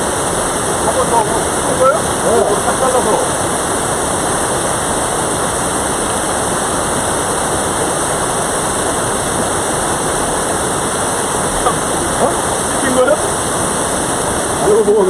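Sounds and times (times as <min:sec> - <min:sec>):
stream rushing: 0:00.0 - 0:15.0.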